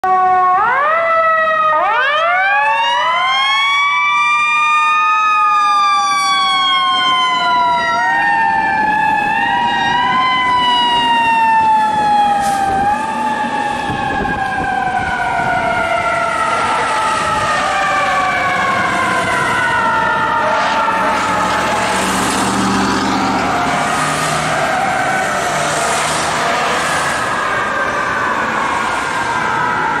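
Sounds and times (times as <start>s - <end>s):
fire engine sirens: 0.0s - 30.0s.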